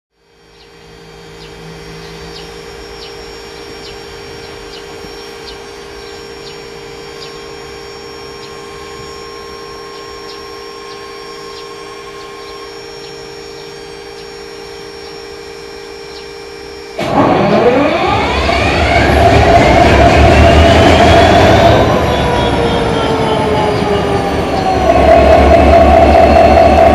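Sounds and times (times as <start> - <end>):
steady hum with regular ticking: 0.1 - 26.9
locomotive diesel engine starting: 0.9 - 26.9.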